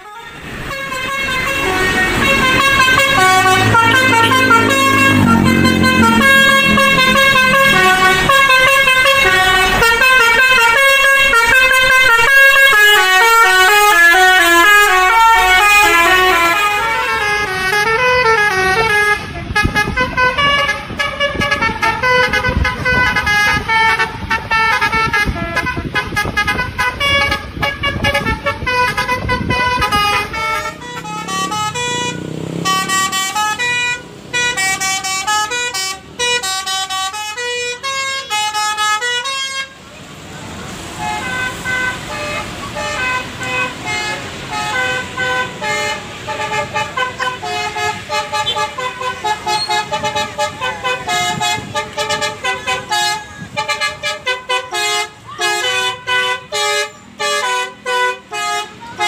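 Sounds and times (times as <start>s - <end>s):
musical bus horns playing melodies: 0.0s - 39.9s, 40.7s - 59.0s.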